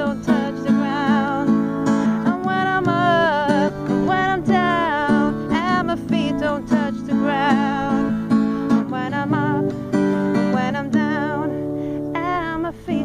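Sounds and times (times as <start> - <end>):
strummed acoustic guitar: 0.0 - 13.0
woman singing with vibrato: 0.0 - 13.0.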